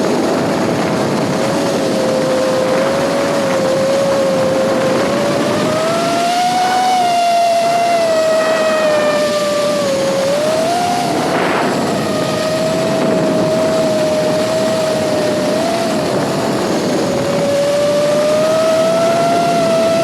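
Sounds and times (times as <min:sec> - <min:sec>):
drone motors whining: 0:00.9 - 0:20.0.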